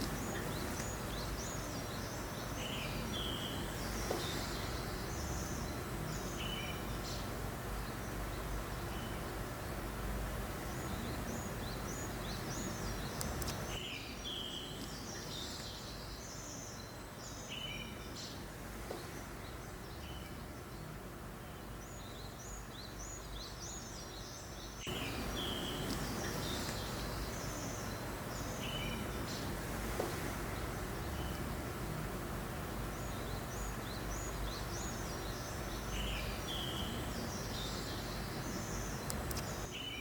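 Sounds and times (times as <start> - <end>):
breeze-like hiss: 0.0 - 39.9
small songbirds chirping: 0.0 - 40.0.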